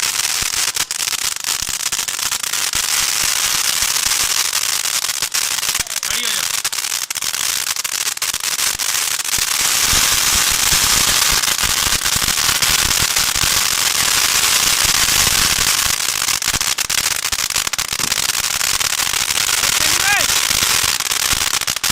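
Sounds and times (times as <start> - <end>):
fireworks crackling: 0.0 - 21.9.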